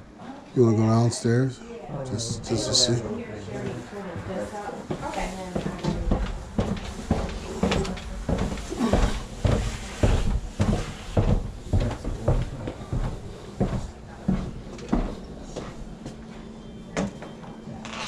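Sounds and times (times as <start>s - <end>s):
footsteps going down stairs: 2.1s - 18.0s.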